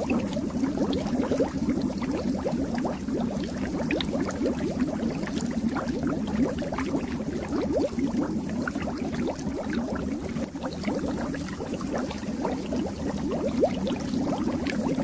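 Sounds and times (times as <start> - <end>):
fish tank water bubbling: 0.0 - 15.0.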